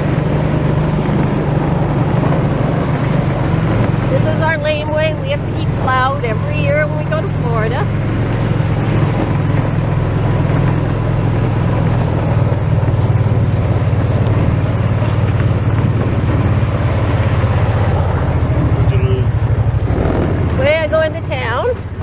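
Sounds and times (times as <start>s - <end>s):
vehicle engine pulsing drone: 0.0s - 22.0s.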